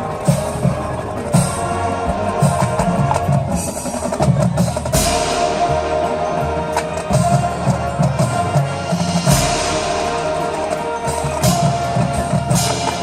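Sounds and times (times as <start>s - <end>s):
brass and winds chords: 0.0s - 13.0s
drumline and percussion: 0.0s - 13.0s.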